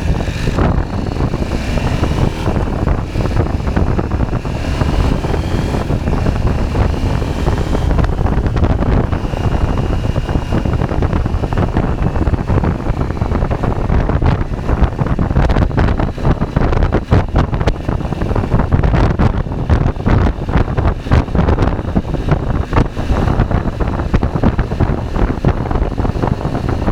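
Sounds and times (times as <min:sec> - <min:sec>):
motorcycle engine running: 0:00.0 - 0:26.9
wind buffeting microphone: 0:00.0 - 0:26.9.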